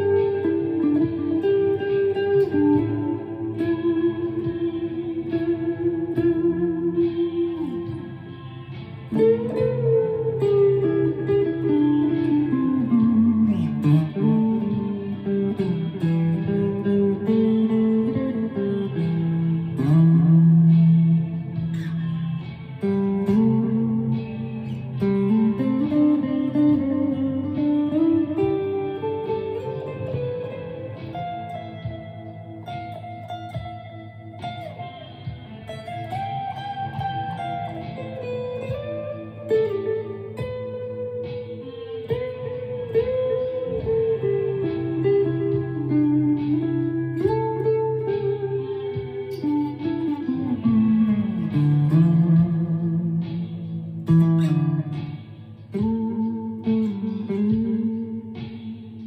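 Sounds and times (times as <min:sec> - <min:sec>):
ambient electric guitar notes: 0:00.0 - 0:59.0.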